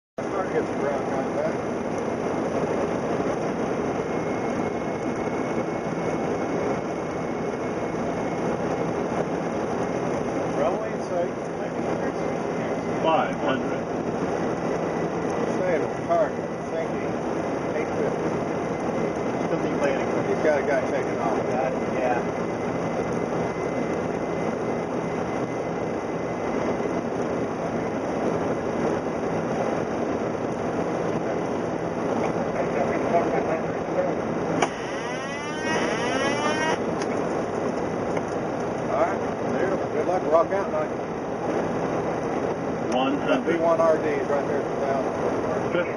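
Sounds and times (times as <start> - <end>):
roar of airflow and engines: 0.2 - 45.9.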